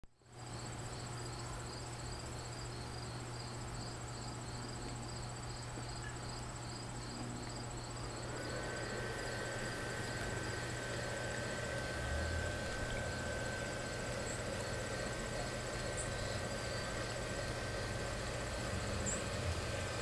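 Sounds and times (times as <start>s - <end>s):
blower fan whine: 0.1s - 20.0s
insects chirping: 0.2s - 20.0s
low steady hum: 0.2s - 20.0s.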